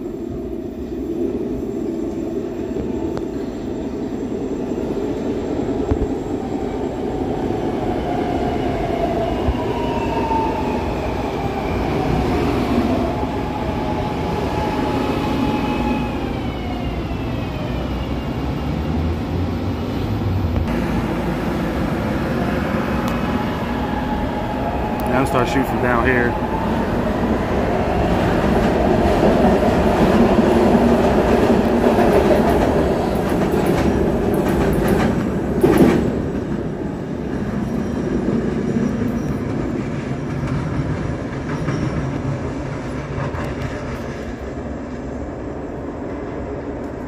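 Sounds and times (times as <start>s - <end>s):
train rumbling into station: 0.0s - 47.0s.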